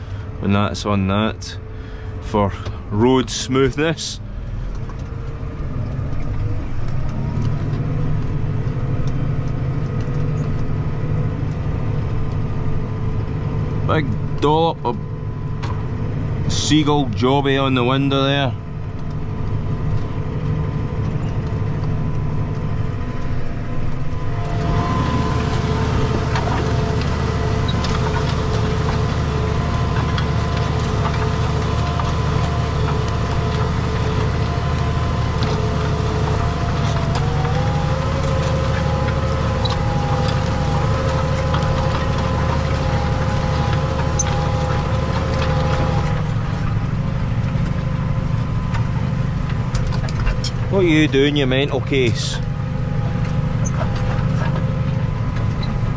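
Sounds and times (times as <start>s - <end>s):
steady whine: 0.0s - 55.9s
tractor diesel engine running: 0.0s - 55.9s.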